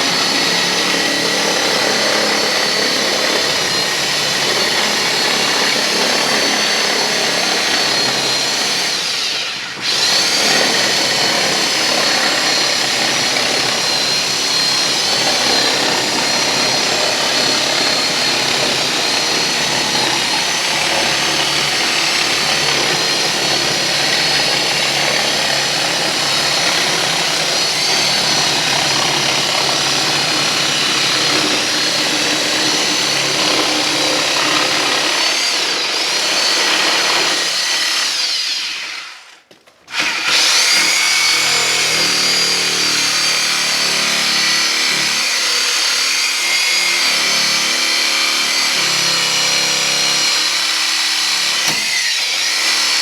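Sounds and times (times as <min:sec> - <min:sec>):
electric power tool whining: 0:00.0 - 0:53.0.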